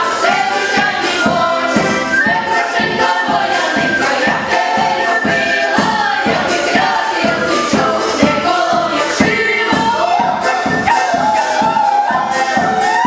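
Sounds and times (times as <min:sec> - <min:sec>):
backing track with steady beat: 0:00.0 - 0:13.0
choir singing: 0:00.0 - 0:13.0.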